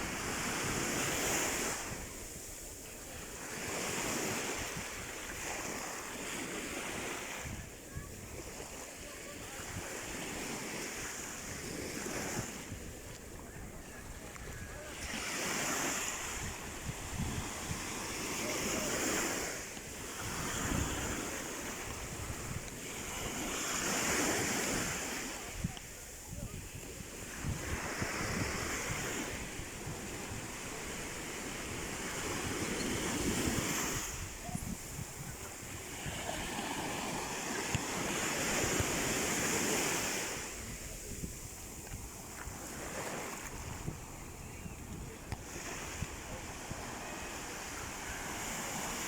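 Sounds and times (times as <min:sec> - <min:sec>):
sea waves washing onto shore: 0:00.0 - 0:49.0.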